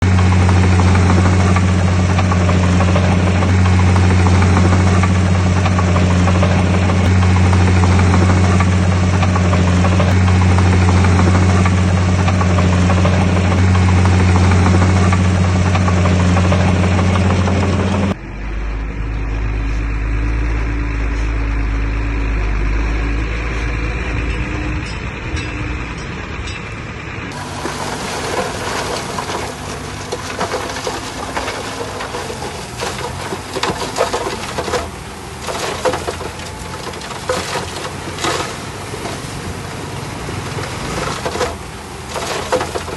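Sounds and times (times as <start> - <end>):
heavy machinery diesel engine: 0.0 - 42.9.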